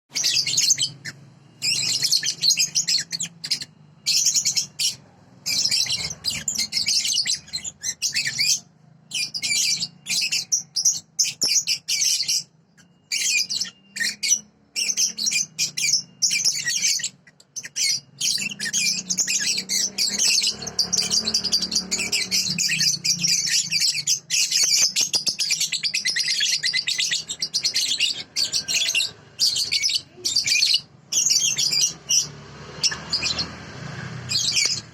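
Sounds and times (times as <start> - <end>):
songbird chirping and trilling: 0.1 - 34.9.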